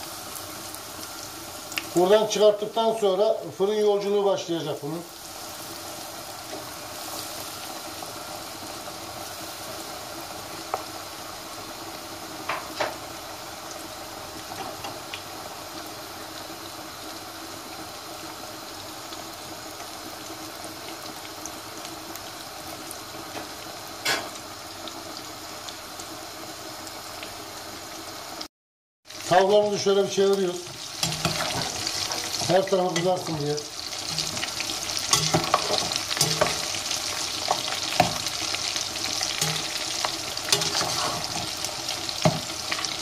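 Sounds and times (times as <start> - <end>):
food deep-frying in oil: 0.0 - 43.0.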